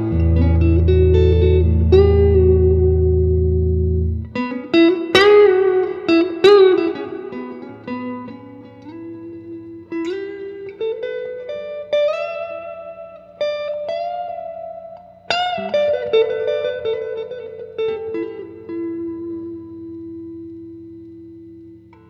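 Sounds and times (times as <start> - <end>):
electric guitar single-note line: 0.0 - 22.0.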